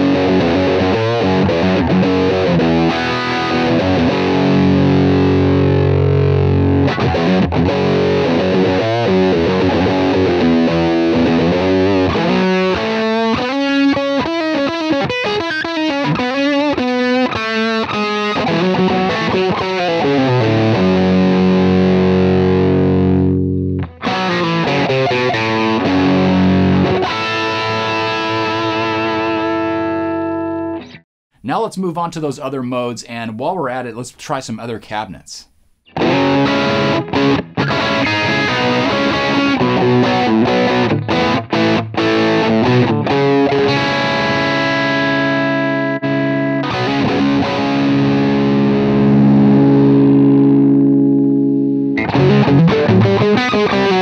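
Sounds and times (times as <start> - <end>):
distorted electric guitar: 0.0 - 31.0, 35.5 - 54.0.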